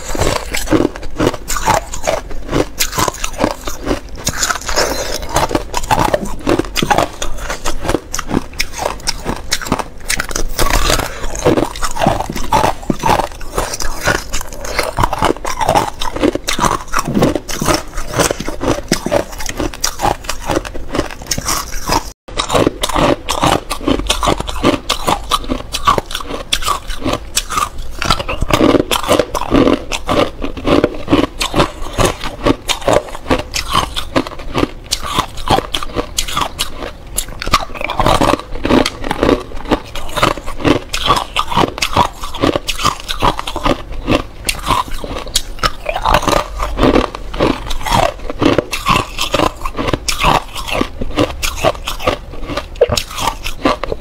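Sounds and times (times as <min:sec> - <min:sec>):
chewing ice cubes: 0:00.0 - 0:54.0.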